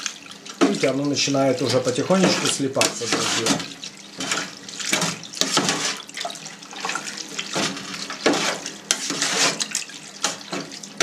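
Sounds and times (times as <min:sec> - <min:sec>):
cheese curds sloshing when stirred: 0:00.0 - 0:11.0.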